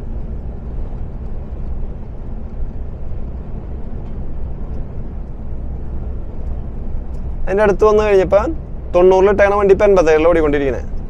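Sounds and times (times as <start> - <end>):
road noise inside cab: 0.0 - 11.0
truck engine rumble: 0.0 - 11.0.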